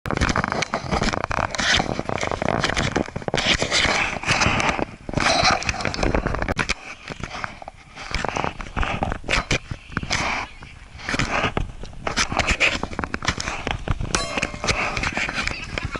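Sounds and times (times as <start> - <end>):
camera case crackling and scraping: 0.1 - 15.9.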